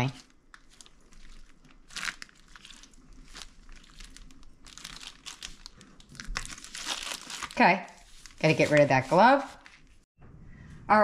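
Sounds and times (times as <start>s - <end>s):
plastic bag and glove crinkling: 0.0s - 10.1s.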